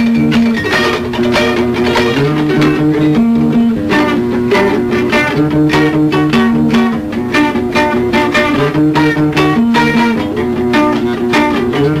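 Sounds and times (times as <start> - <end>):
guitar riff: 0.0 - 12.0.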